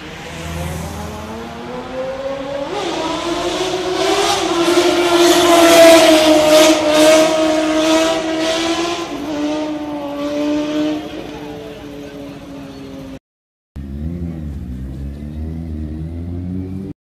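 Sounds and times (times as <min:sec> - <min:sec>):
motorcycle engine at high revs passing: 0:00.0 - 0:13.2, 0:13.8 - 0:17.0.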